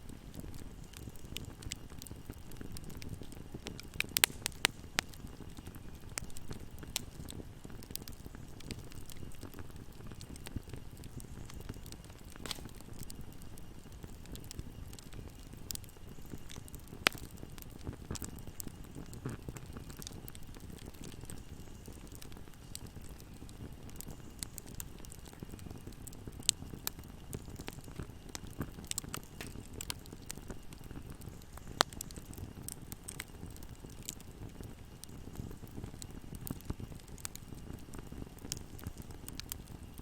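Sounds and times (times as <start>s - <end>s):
fire crackling and popping: 0.0s - 40.0s.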